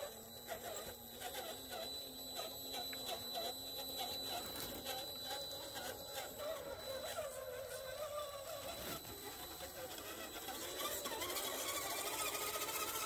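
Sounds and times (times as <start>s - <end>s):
rc car motor whining: 0.0s - 13.0s.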